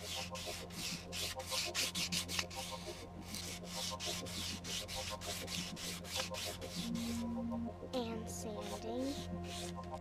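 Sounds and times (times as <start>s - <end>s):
sandpaper rubbing on metal: 0.0s - 7.3s, 8.7s - 9.8s.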